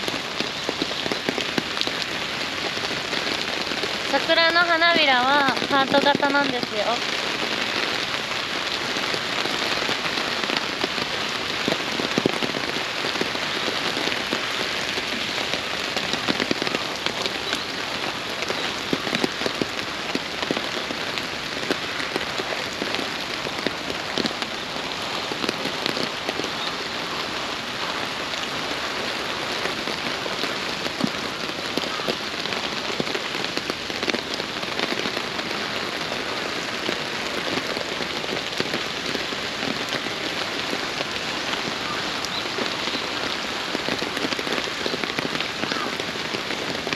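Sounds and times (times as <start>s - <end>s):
steady rain drops ticking: 0.0s - 46.9s.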